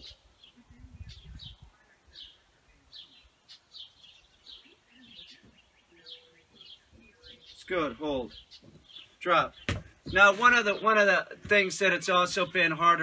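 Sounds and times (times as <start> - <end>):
faint bird chirping: 0.0 - 10.9.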